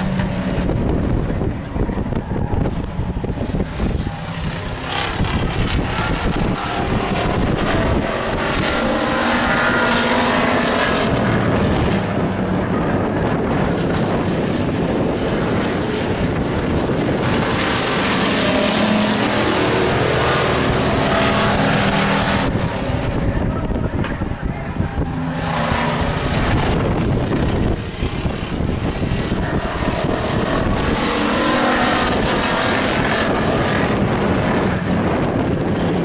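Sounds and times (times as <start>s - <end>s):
race truck engines droning: 0.0s - 36.0s.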